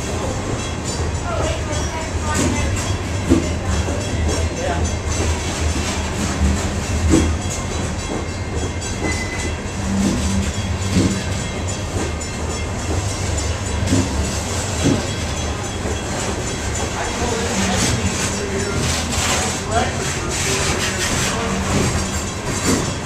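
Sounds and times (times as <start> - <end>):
train wheels rumbling on rail: 0.0 - 23.0
wheels clacking over rail joints: 0.0 - 23.0.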